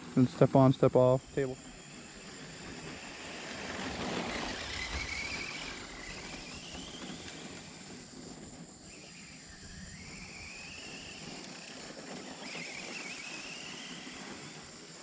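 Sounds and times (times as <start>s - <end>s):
steady hiss: 0.0s - 15.0s
toy truck electric motor whining: 1.4s - 15.0s.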